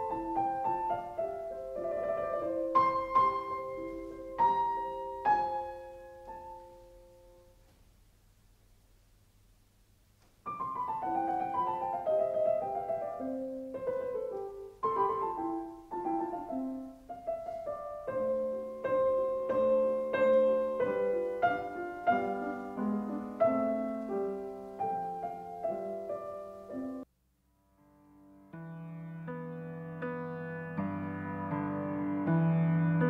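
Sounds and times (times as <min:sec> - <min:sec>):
solo piano music: 0:00.0 - 0:07.6, 0:10.4 - 0:27.1, 0:27.7 - 0:33.0.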